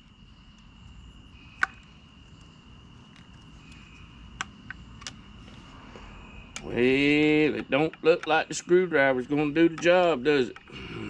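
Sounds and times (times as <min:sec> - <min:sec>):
insect trill: 0:00.0 - 0:11.0.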